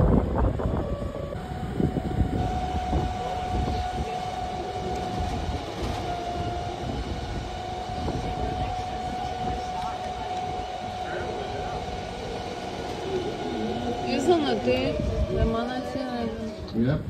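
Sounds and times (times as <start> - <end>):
boat motor whining and rumbling: 0.0 - 17.0.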